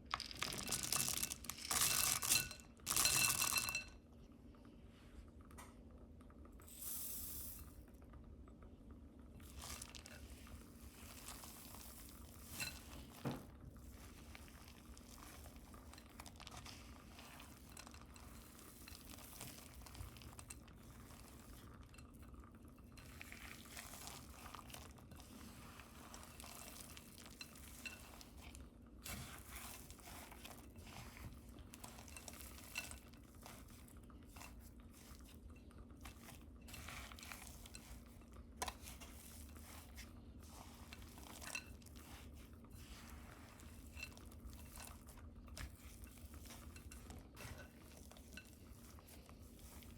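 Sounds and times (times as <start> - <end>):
stirring in a mixing bowl: 0.0 - 4.2, 6.5 - 49.9.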